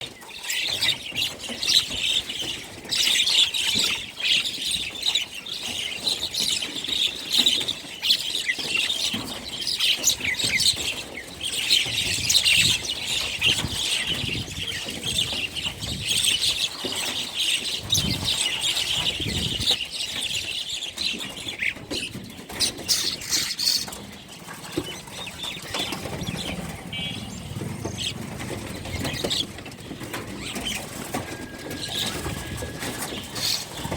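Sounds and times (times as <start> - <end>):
small birds chirping: 0.0 - 33.9
wings flapping: 0.0 - 33.9.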